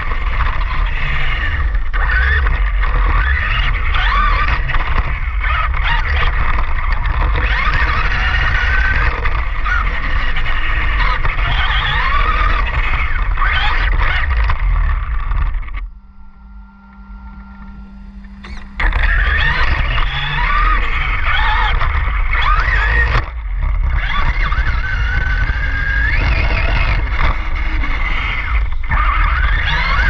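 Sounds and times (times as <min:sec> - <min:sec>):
drivetrain rumbling: 0:00.0 - 0:30.0
toy car motor whine: 0:00.0 - 0:30.0.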